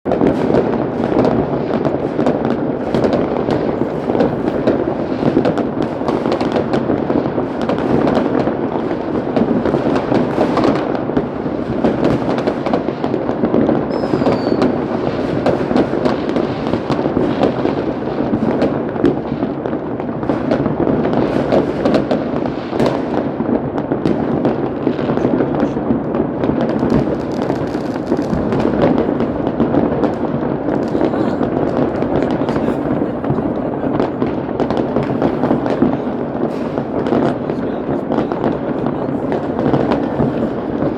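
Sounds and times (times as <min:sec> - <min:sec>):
fireworks and firecrackers banging: 0:00.1 - 0:40.9.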